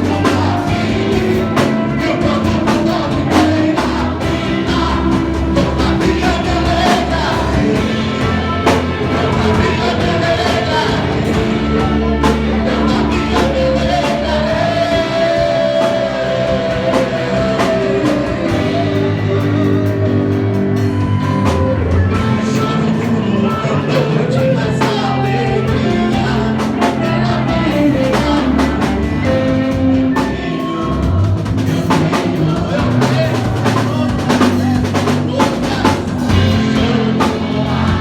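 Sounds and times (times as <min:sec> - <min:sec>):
bass: 0:00.0 - 0:38.0
drum kit: 0:00.0 - 0:38.0
person singing: 0:00.0 - 0:38.0.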